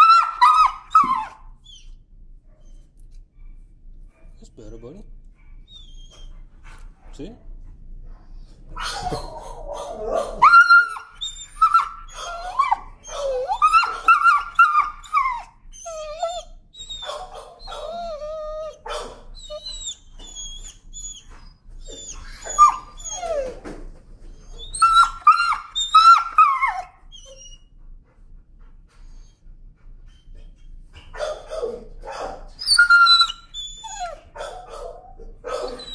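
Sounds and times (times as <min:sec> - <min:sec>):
dog whining and yelping: 0:00.0 - 0:03.7, 0:04.4 - 0:06.8, 0:08.7 - 0:27.9, 0:29.0 - 0:35.9.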